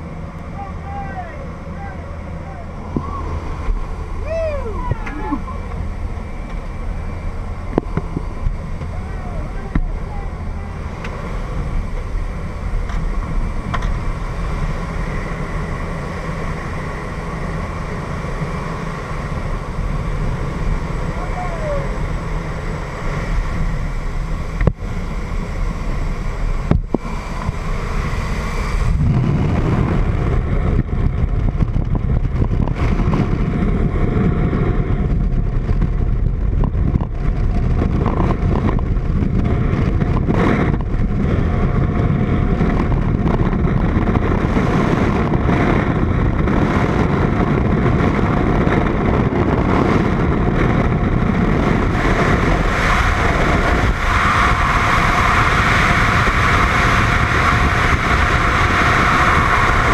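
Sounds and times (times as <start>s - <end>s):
aircraft engine and slipstream: 0.0s - 59.9s
wind rushing over microphone: 0.0s - 59.9s.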